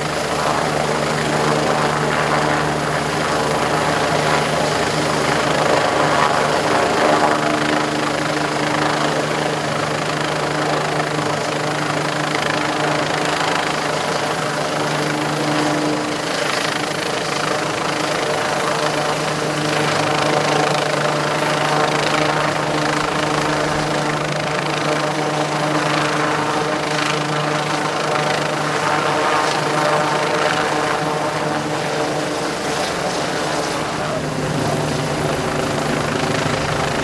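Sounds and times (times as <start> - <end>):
helicopter rotor and turbine: 0.0 - 37.0.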